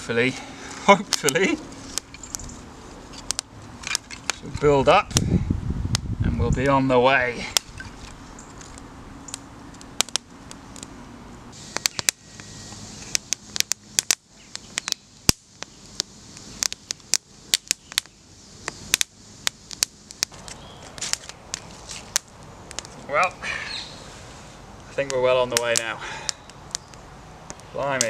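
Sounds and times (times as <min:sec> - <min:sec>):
kindling fire crackling and popping: 0:00.0 - 0:28.0.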